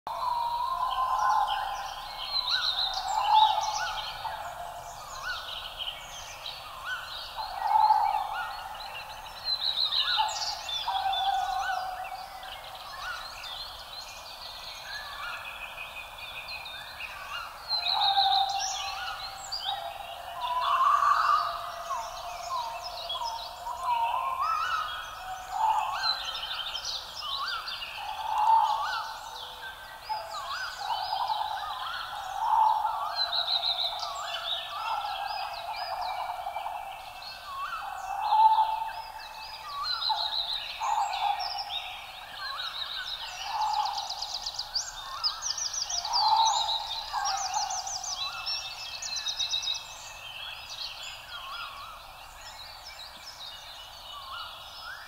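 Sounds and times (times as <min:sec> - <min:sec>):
many birds calling: 0:00.1 - 0:55.0.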